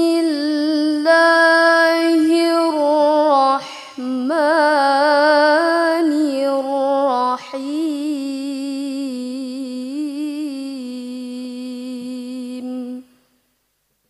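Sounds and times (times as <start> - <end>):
woman reciting melodically: 0.0 - 13.4.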